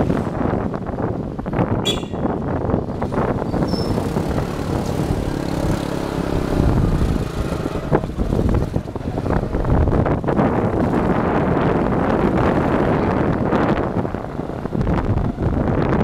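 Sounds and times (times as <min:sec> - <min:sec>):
dense street traffic rumble: 0:00.0 - 0:16.0.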